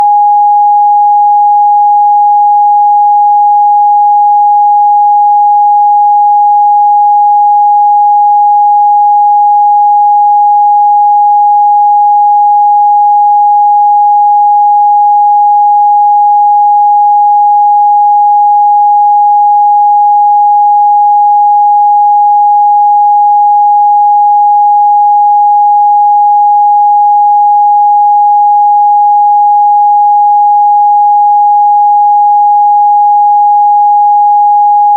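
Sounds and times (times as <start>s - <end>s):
sine wave test tone: 0.0s - 34.9s.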